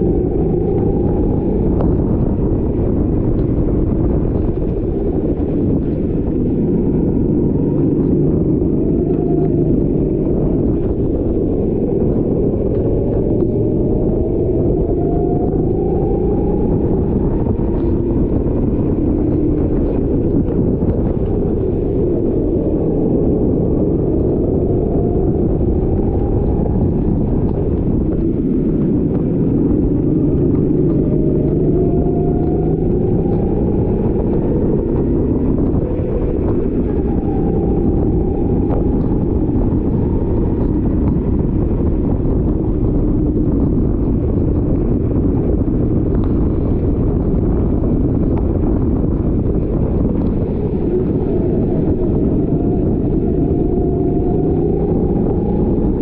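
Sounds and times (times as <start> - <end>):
go-kart engine accelerating: 0.0 - 56.0
low rumble: 0.0 - 56.0.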